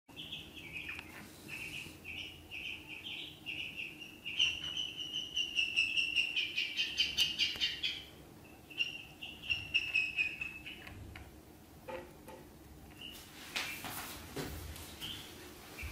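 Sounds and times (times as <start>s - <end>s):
ducklings peeping: 0.1s - 13.9s, 14.8s - 15.9s.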